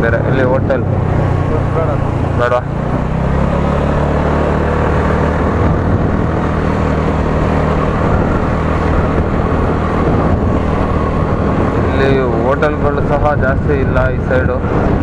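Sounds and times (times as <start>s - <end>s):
scooter engine running: 0.0s - 15.0s
wind rushing over microphone: 0.0s - 15.0s.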